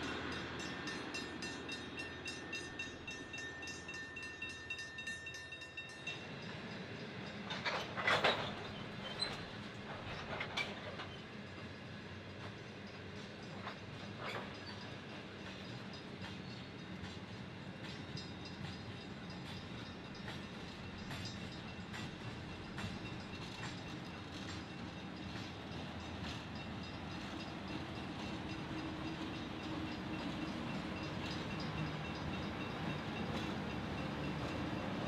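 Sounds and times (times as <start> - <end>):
train rumble and drone: 0.0 - 35.0
train wheels clicking over rail joints: 5.8 - 35.0.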